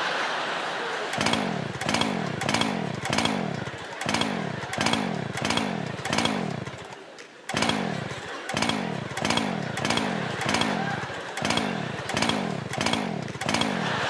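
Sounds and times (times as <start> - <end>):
chainsaw engine revving: 1.1 - 14.0.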